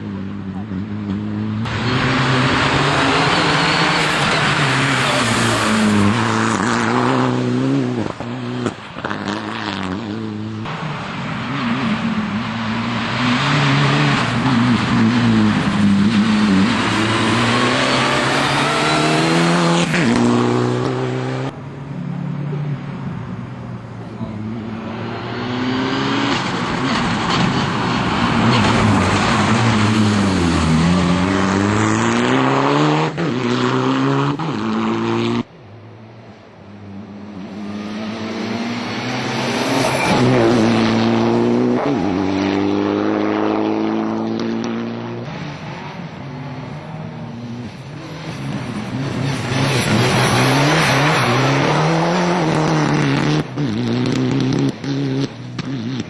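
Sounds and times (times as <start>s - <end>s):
rally car engine revving: 0.0s - 21.6s, 24.1s - 35.5s, 36.8s - 56.0s.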